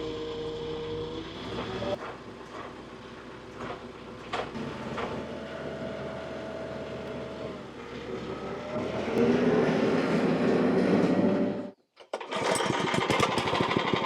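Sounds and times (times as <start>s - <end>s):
gasoline engine running: 0.0s - 11.7s.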